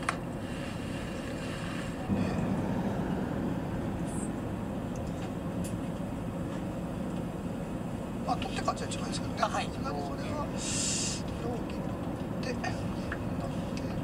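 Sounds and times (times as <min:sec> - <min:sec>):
truck engine rumble: 0:00.0 - 0:14.0.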